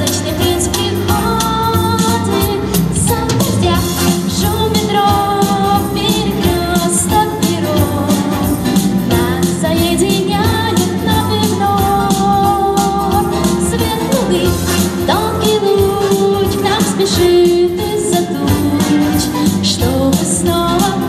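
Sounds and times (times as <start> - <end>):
girl singing into microphone: 0.0 - 21.0
instrumental music with steady beat: 0.0 - 21.0.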